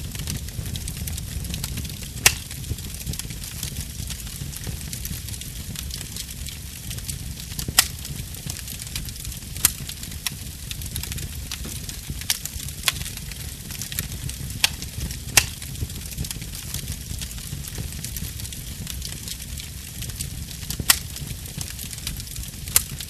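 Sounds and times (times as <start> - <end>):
burning wood crackling pops: 0.0 - 23.0
fire rumbling and hissing: 0.0 - 23.0.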